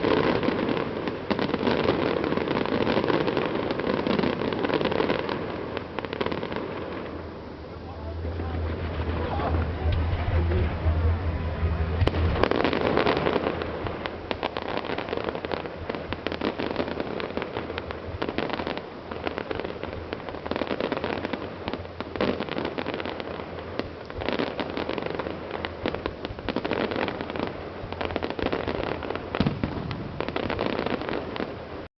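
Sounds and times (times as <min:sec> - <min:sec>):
fireworks crackling: 0:00.0 - 0:31.9
loud firework bangs: 0:00.0 - 0:31.9.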